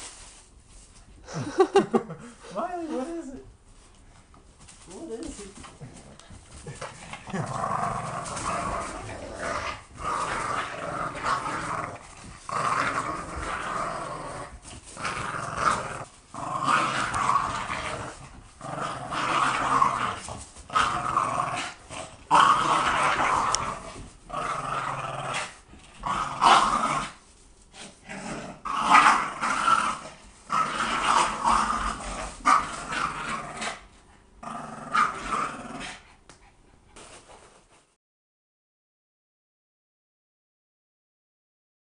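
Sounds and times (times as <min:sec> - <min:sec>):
puppies play-growling: 0:03.8 - 0:37.8.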